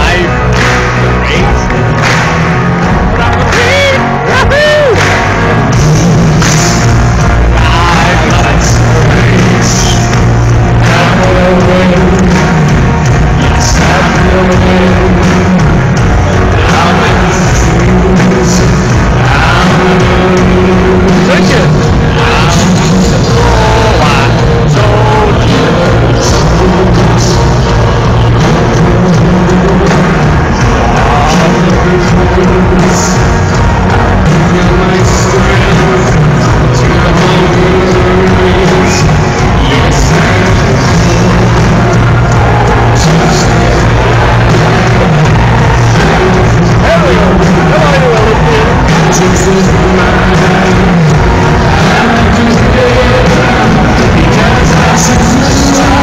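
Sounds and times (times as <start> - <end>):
loud rock music with singing: 0.0 - 56.0.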